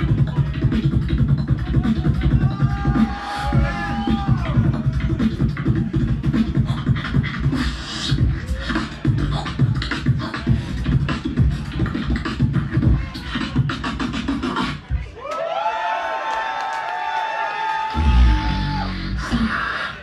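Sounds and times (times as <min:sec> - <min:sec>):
person beatboxing: 0:00.0 - 0:14.9, 0:17.9 - 0:20.0.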